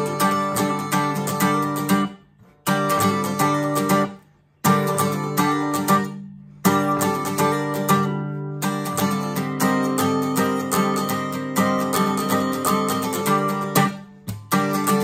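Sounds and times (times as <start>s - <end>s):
acoustic guitar strummed with pick: 0.0s - 15.0s.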